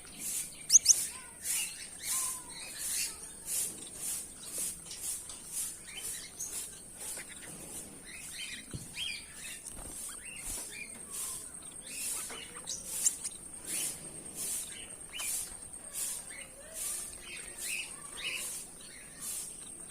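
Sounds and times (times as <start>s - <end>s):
goldfinches twittering: 0.0s - 19.9s.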